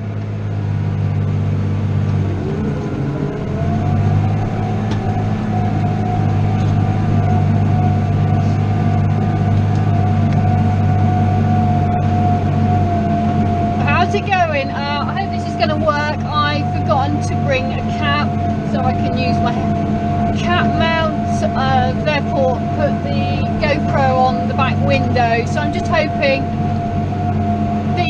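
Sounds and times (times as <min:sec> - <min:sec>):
steady whine: 0:00.0 - 0:28.0
tractor diesel engine droning: 0:00.0 - 0:28.0.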